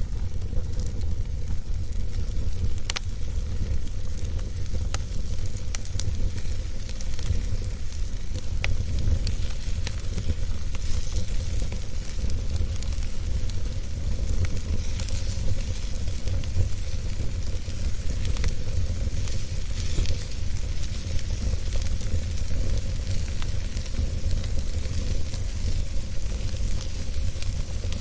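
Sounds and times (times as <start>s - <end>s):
fire crackles and pops: 0.0s - 28.0s
wood fire rumbling and hissing: 0.0s - 28.0s.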